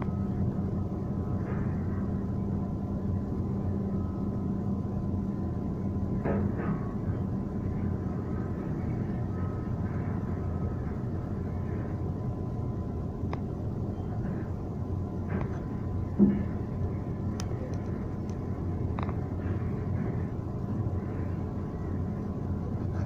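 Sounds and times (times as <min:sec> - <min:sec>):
demolition machinery rumbling: 0:00.0 - 0:23.0.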